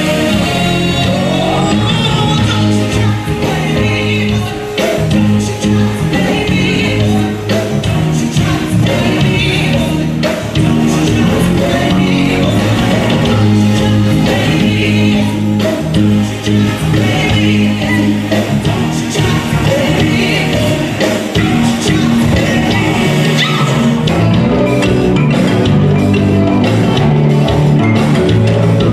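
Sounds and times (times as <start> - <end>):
woman singing into microphone: 0.0 - 24.4
backing music with bass: 0.0 - 28.9.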